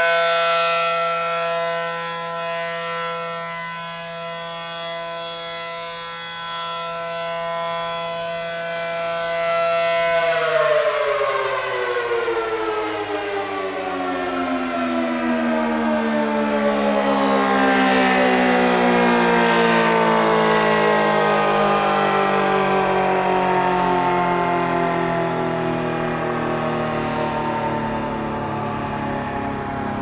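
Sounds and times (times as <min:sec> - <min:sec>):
rotating siren two-tone chord: 0:00.0 - 0:30.0.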